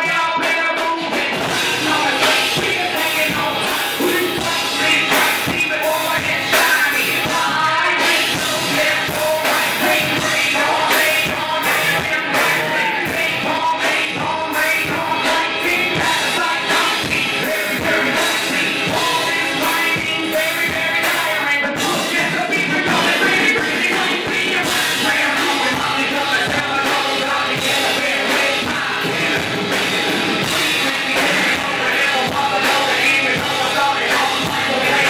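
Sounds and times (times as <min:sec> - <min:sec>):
drum kit with cymbal hits: 0:00.0 - 0:35.0
electric guitar: 0:00.0 - 0:35.0
person singing into a microphone: 0:00.0 - 0:35.0.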